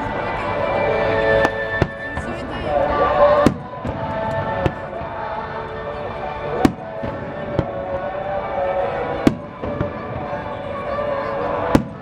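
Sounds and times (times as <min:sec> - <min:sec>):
music playing: 0:00.0 - 0:12.0
fireworks bangs: 0:01.4 - 0:12.0.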